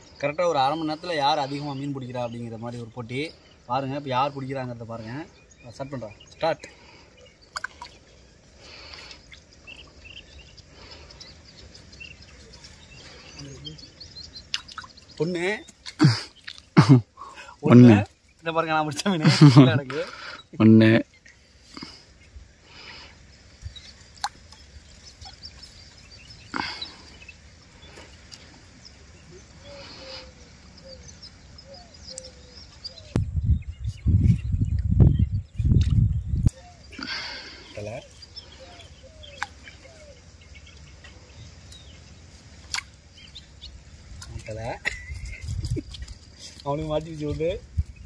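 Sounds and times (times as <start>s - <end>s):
outdoor background hiss: 0.0s - 48.0s
small birds chirping: 0.0s - 48.0s.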